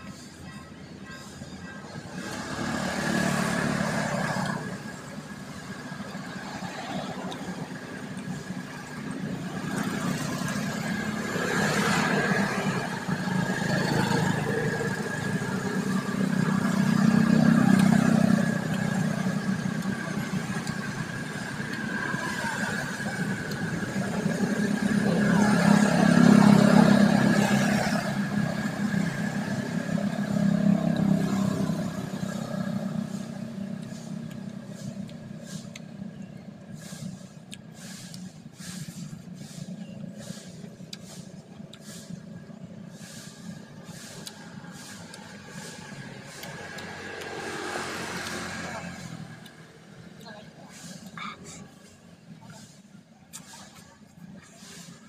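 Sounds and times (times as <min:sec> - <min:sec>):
vehicles passing by: 0:00.0 - 0:55.0.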